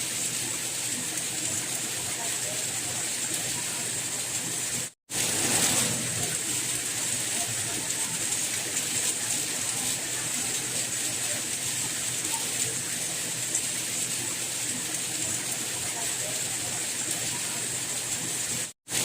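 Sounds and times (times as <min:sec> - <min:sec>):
soft rain falling: 0:00.0 - 0:19.0.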